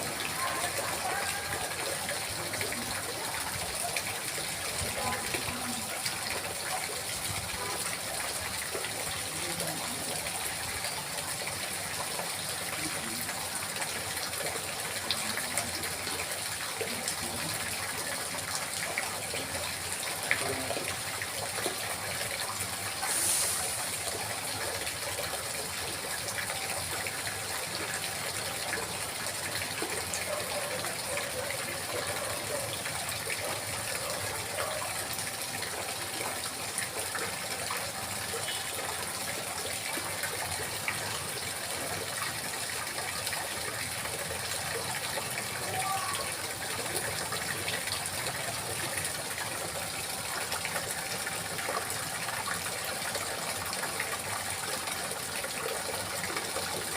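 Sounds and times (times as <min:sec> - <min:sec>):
water trickling and babbling: 0:00.0 - 0:56.9.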